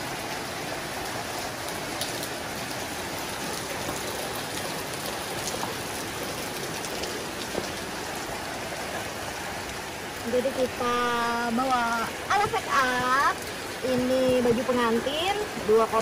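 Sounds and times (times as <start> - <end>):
rain on wet pavement: 0.0 - 16.0.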